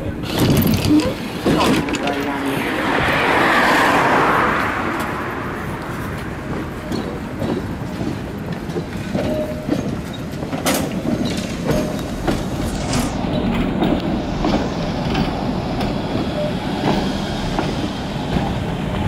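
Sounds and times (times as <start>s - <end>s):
wheels clacking over rail joints: 0.0s - 2.6s, 6.0s - 19.0s
tram wheels on rails: 0.0s - 19.0s.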